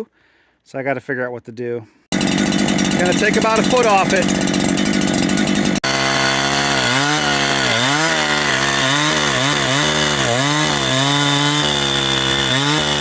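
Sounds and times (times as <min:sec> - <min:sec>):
chainsaw cutting log: 0:02.1 - 0:13.0.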